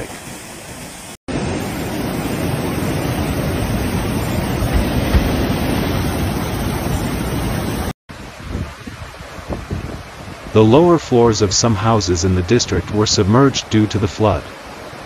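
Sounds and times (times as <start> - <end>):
river water rushing: 0.0 - 12.1, 13.1 - 15.0.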